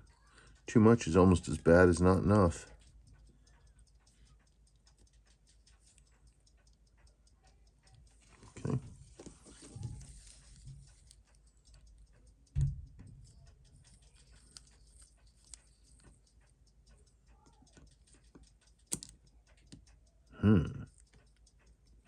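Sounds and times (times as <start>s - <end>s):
watch tools clicking and tapping: 0.0s - 22.0s.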